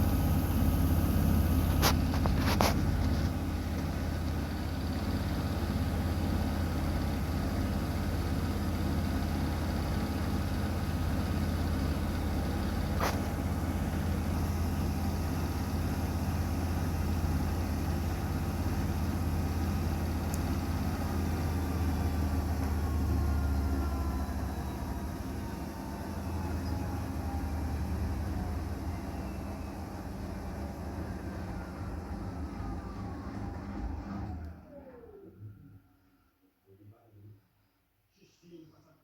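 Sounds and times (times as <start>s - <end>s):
washing machine motor hum: 0.0s - 35.6s.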